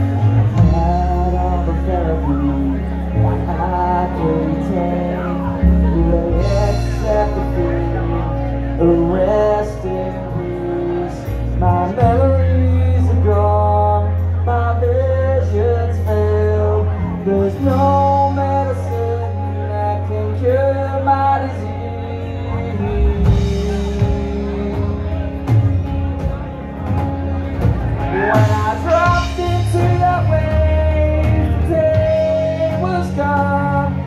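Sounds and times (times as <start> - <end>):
electric guitar: 0.0 - 34.0
heavy electric bass: 0.0 - 34.0
man singing: 0.0 - 34.0.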